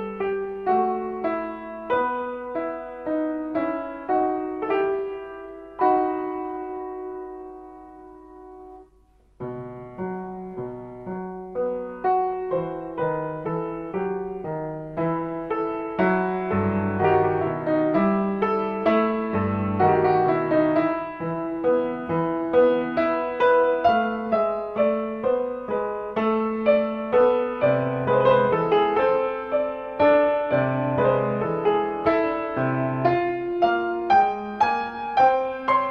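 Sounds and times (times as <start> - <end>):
solo piano music: 0.0 - 35.9.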